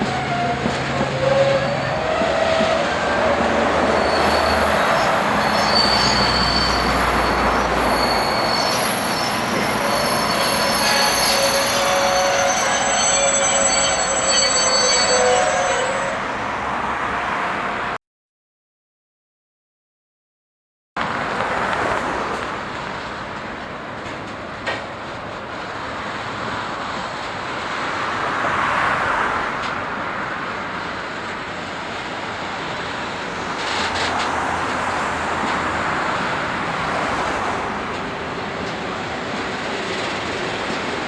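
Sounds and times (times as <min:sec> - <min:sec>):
train rolling along track: 0:00.0 - 0:18.0, 0:21.0 - 0:41.0.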